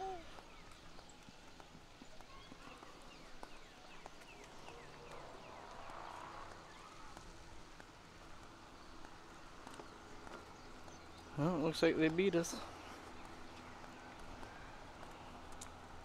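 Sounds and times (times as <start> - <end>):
birds chirping: 0.0 - 16.0
footsteps on concrete: 0.3 - 16.0.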